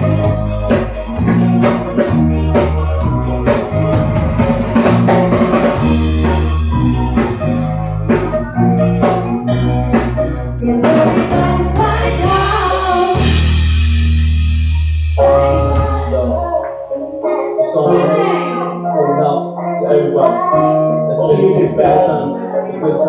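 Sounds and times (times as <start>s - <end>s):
pop music with singing: 0.0s - 13.5s, 15.2s - 23.0s.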